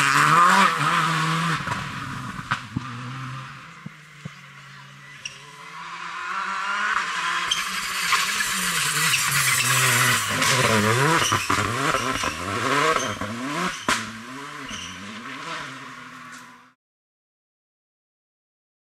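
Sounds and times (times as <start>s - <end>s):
rally car engine revving: 0.0s - 16.8s.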